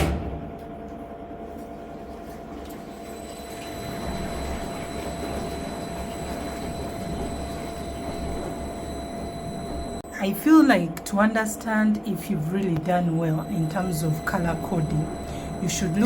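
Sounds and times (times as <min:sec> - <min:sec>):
washing machine rumbling and humming: 0:00.0 - 0:16.0.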